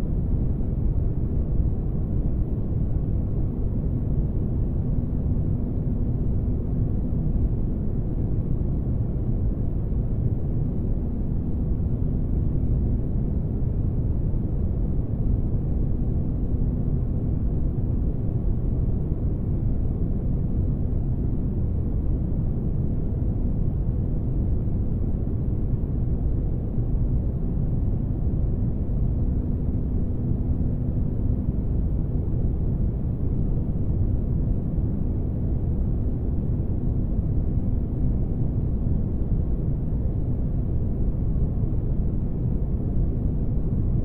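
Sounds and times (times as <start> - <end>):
faint hum: 0.0 - 44.0.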